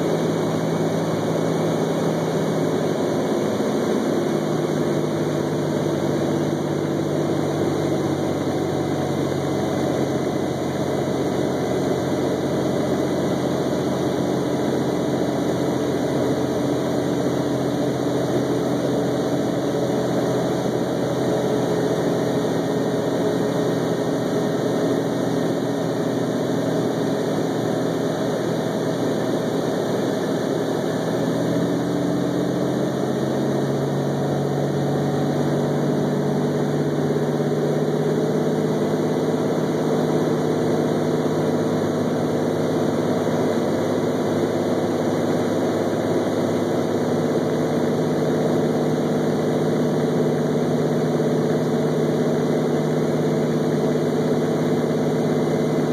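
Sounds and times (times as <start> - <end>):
plane engine and propeller: 0.0 - 55.9.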